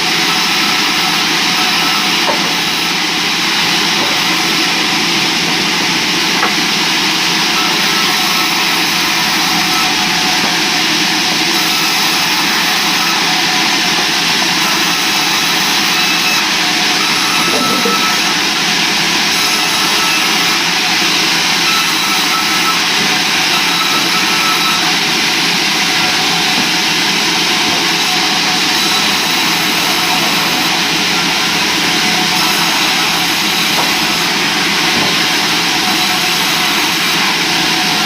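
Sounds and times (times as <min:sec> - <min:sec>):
sawmill machinery running: 0:00.0 - 0:38.0.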